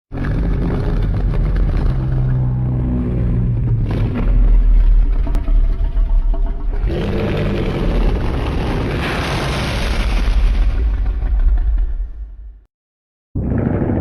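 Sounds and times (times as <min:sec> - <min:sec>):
deep monster growl: 0:00.1 - 0:12.6, 0:13.4 - 0:14.0
heavy low rumble: 0:00.1 - 0:12.7.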